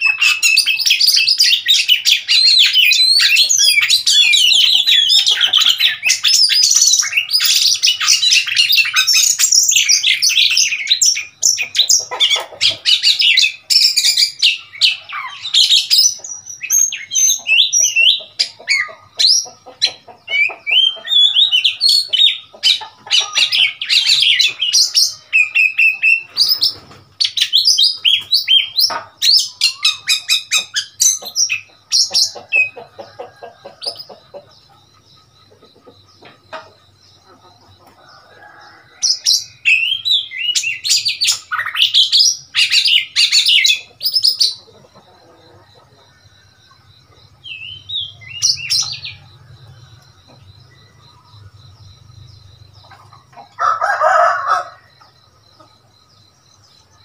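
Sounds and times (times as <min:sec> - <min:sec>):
birds singing whistles and chirps: 0:00.0 - 0:57.0.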